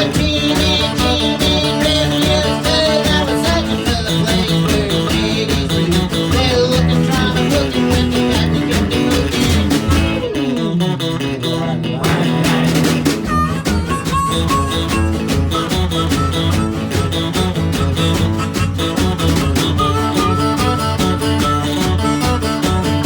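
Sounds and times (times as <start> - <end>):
country band instrumental: 0.0 - 23.0
guitar: 0.0 - 23.0.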